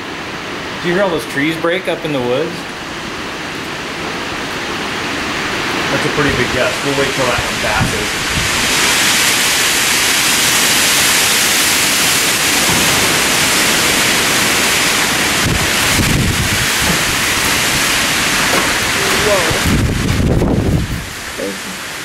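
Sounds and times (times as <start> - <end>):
rain: 0.0 - 22.0
storm wind rushing through trees: 0.0 - 22.0
wind buffeting microphone: 2.8 - 22.0.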